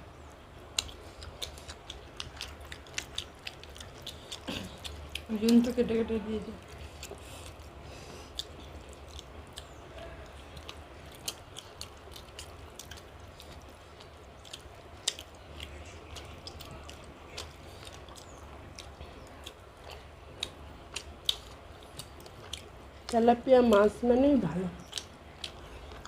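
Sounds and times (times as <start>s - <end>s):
faint low hum: 0.0s - 26.0s
person chewing food: 0.2s - 24.0s, 24.8s - 26.0s.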